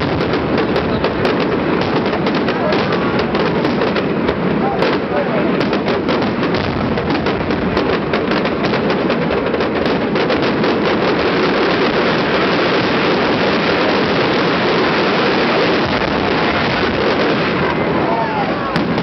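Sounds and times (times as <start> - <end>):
fireworks crackling bangs: 0.0 - 19.0
rumble of overlapping explosions: 0.0 - 19.0.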